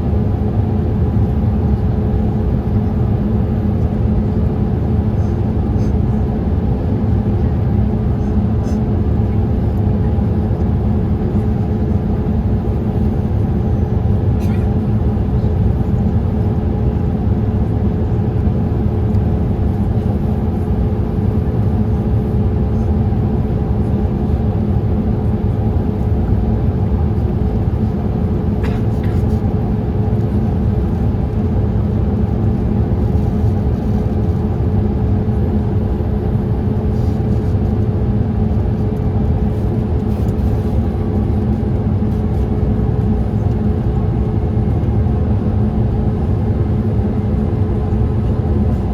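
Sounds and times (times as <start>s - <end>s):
airliner cabin rumble: 0.0s - 48.9s
constant hum: 0.0s - 48.9s.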